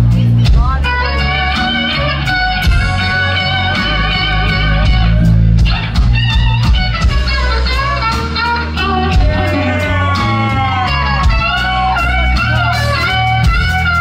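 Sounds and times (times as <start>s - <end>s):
bass guitar: 0.0s - 14.0s
electric guitar lead: 0.0s - 14.0s
steady drum beat: 0.0s - 14.0s.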